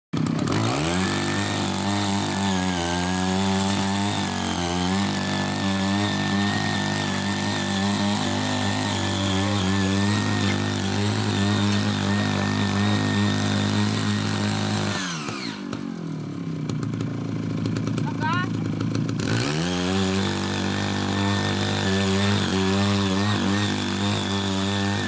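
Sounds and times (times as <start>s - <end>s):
small petrol tiller engine running: 0.2s - 25.0s
tines churning soil: 0.2s - 25.0s.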